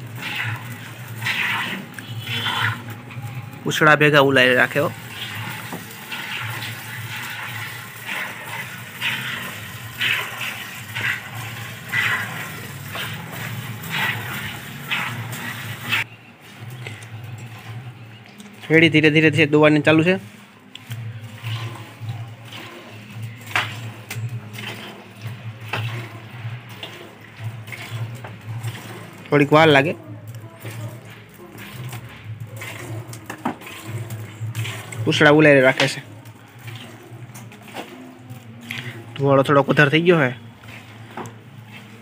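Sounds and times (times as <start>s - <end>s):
milk squirting into bucket: 0.0s - 3.0s, 4.0s - 16.1s, 20.7s - 42.0s.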